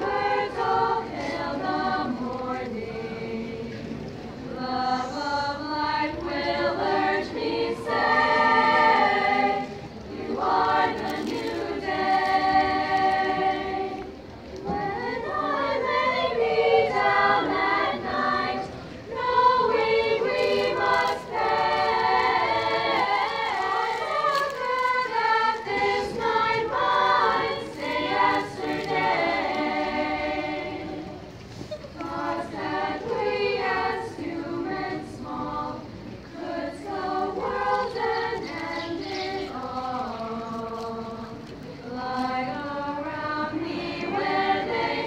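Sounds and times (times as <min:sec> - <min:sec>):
girls' choir singing a cappella: 0:00.0 - 0:45.0.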